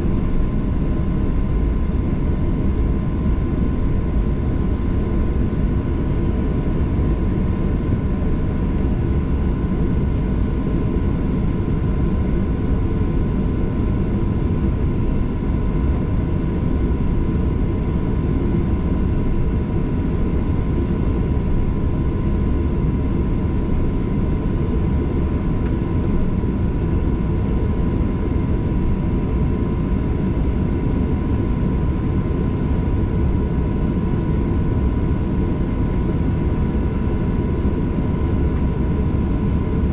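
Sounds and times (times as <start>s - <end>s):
jet engine deep rumble: 0.0s - 39.9s.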